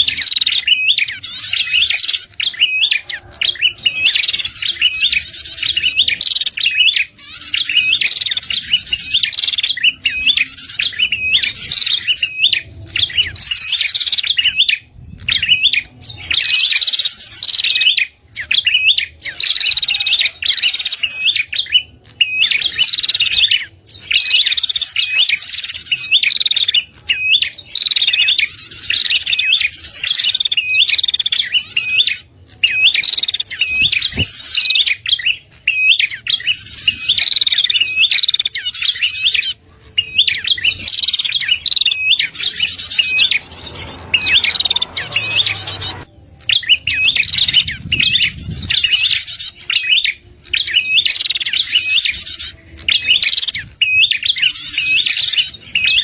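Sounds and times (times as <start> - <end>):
bird chirps and buzzy trills: 0.0 - 56.0.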